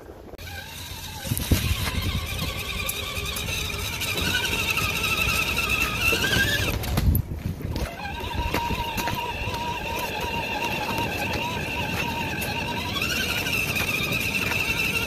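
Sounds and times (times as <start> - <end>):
electric motor and gears whining: 0.2 - 15.0
chassis and tyres knocking: 1.0 - 15.0.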